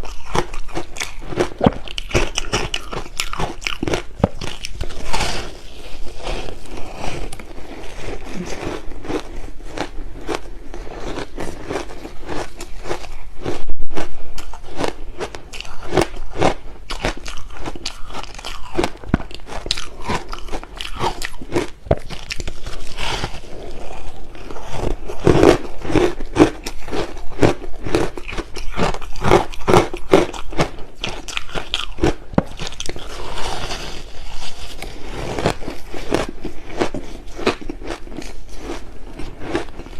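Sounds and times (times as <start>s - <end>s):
chewing shaved ice: 0.0s - 39.9s.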